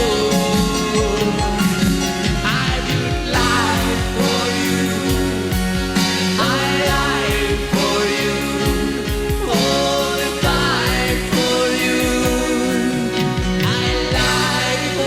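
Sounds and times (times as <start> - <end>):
person singing: 0.0 - 15.0
rock ballad band music: 0.0 - 15.0
steady drum beat: 0.0 - 15.0.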